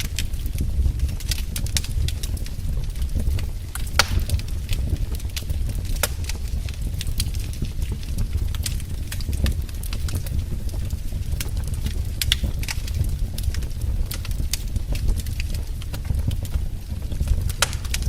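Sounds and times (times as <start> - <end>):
fire burning rumble: 0.0 - 18.0
fire crackling and popping: 0.0 - 18.0.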